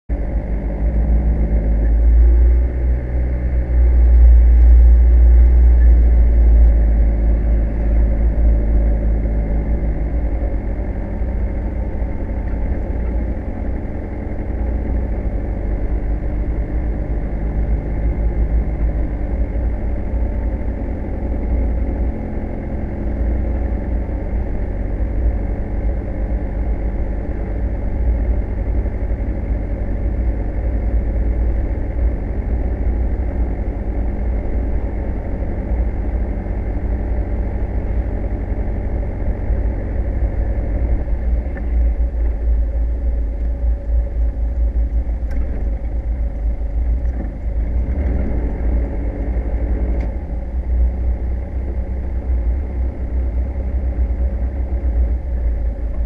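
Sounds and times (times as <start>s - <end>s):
car engine: 0.1s - 56.0s
road noise: 0.1s - 56.0s.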